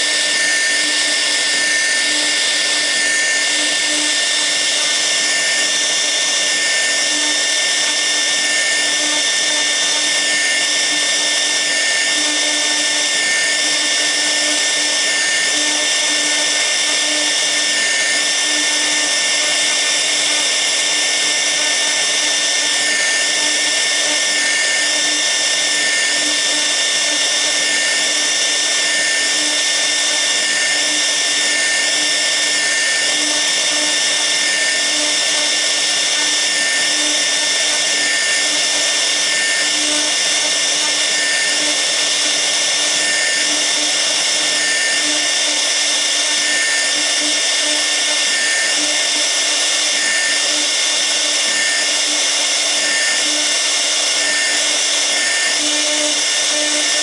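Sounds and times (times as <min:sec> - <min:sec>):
cnc router spindle whining: 0:00.0 - 0:57.0.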